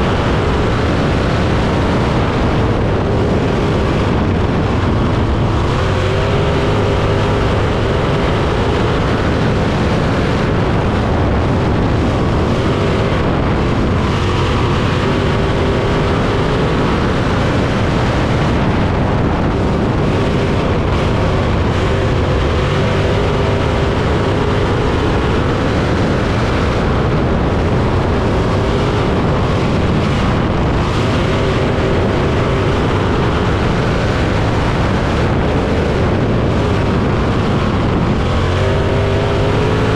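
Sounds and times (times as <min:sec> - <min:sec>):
racing car engine running hard: 0:00.0 - 0:39.9.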